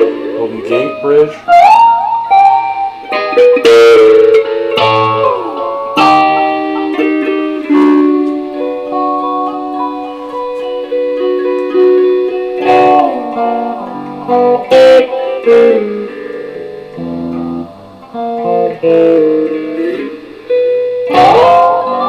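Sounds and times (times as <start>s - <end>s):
electric guitar notes: 0.0s - 22.0s.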